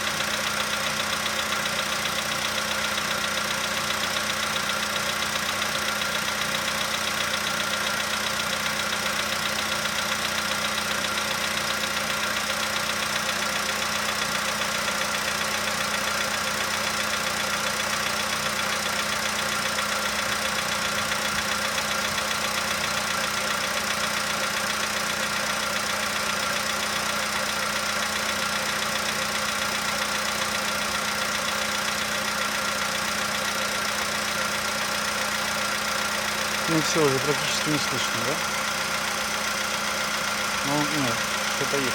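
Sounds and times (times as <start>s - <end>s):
car engine idling: 0.0s - 41.9s
engine knocking: 0.0s - 41.9s.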